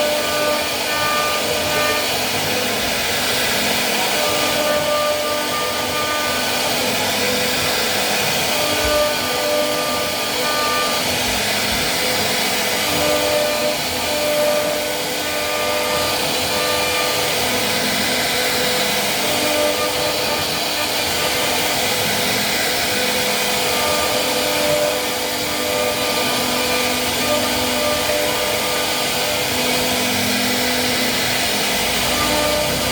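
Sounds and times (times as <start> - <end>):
wood router whining: 0.0 - 32.9.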